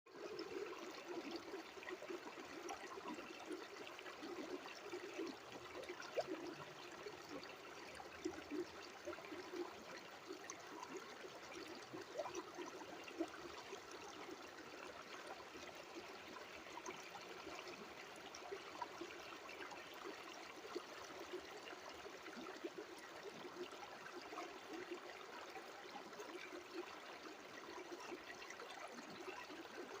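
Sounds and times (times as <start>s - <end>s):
water trickling and babbling: 0.1s - 30.0s.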